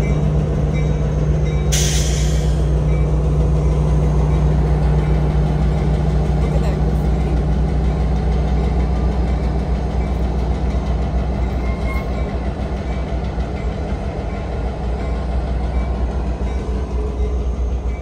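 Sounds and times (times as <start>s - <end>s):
diesel locomotive engines rumbling: 0.0s - 18.0s
train wheels on rails: 0.0s - 18.0s.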